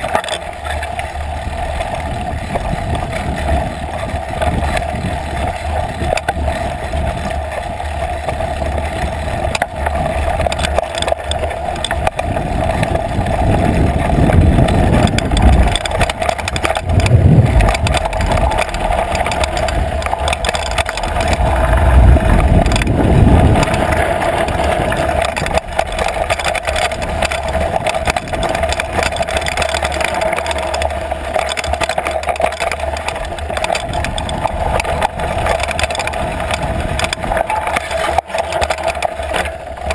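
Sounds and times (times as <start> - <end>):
bike frame and chain rattle: 0.0 - 39.9
bike tyre noise on dirt: 0.0 - 39.9
low rumbling: 0.0 - 39.9.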